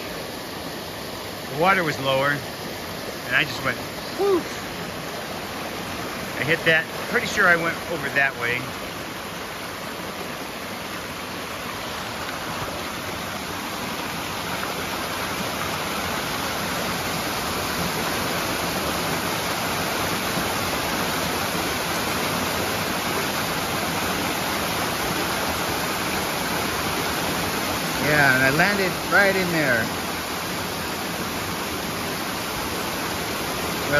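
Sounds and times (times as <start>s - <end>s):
water rushing over rocks: 0.0s - 33.9s.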